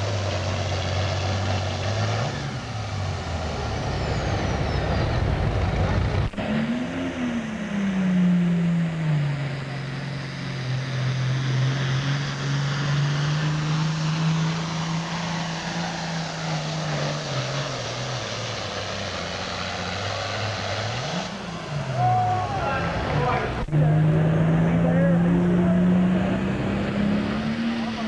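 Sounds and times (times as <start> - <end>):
diesel tractor engine at full power: 0.0 - 28.0.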